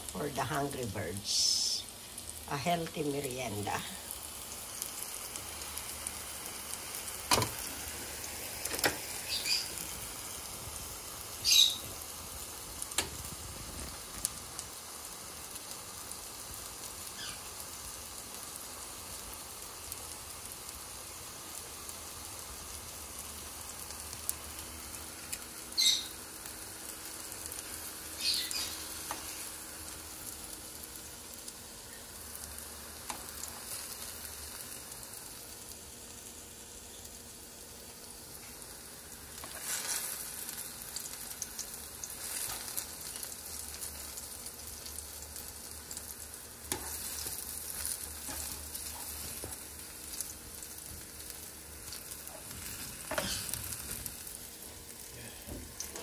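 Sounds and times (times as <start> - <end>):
plantain sizzling in oil: 0.0 - 56.0.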